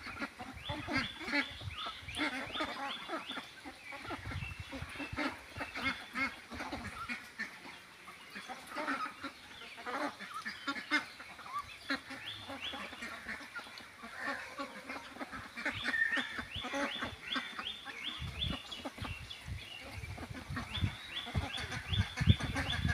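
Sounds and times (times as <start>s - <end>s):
ducks quacking: 0.0s - 22.9s.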